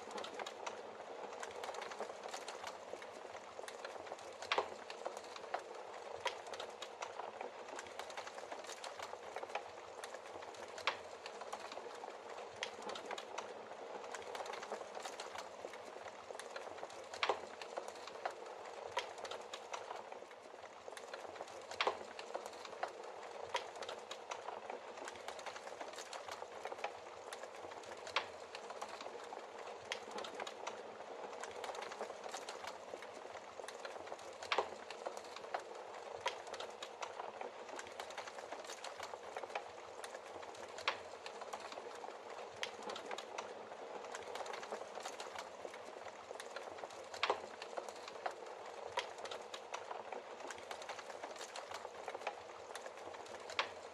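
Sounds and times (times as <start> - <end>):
fire hissing and crackling: 0.0 - 53.9.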